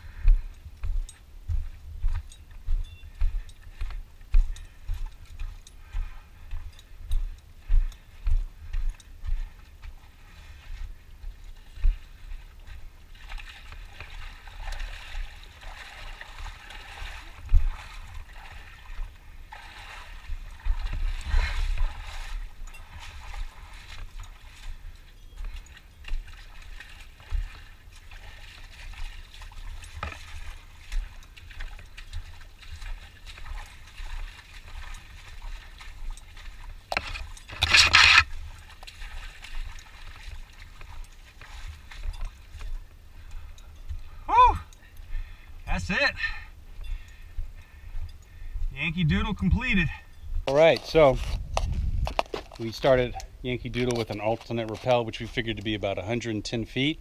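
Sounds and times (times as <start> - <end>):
footsteps on gravel: 0.0 - 43.0, 50.4 - 55.8
wading through water: 0.0 - 57.0.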